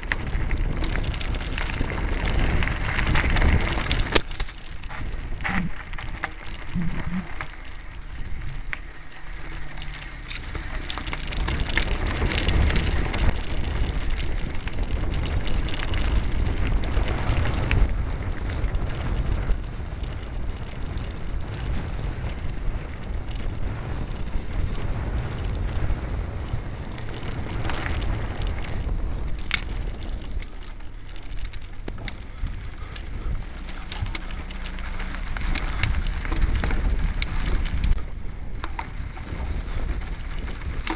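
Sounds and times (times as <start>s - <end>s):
bike rattling: 0.0s - 40.9s
tyres crunching over stones: 0.0s - 40.9s
wind buffeting microphone: 0.0s - 40.9s.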